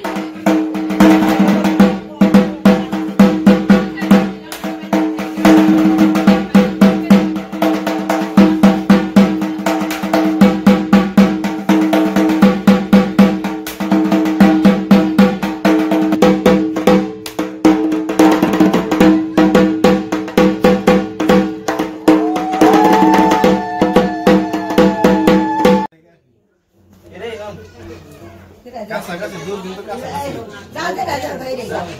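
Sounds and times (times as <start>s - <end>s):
fast drumming on a barrel drum: 0.0s - 25.9s.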